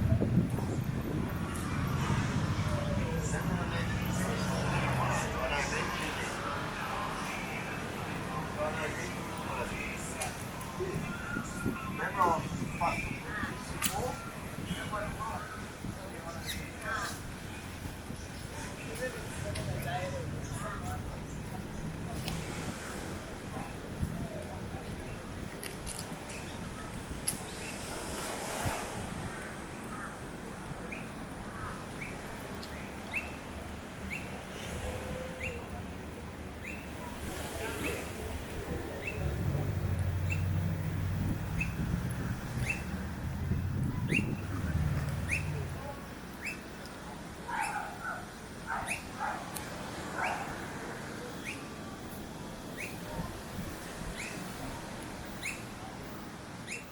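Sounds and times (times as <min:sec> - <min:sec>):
outdoor background noise: 0:00.0 - 0:56.9.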